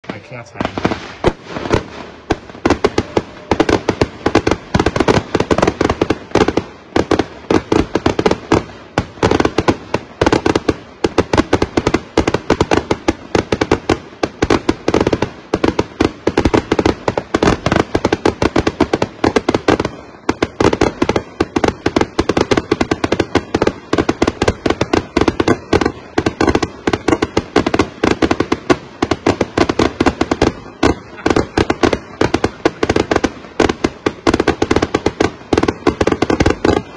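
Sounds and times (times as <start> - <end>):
rapid firework bangs: 0.0 - 36.9.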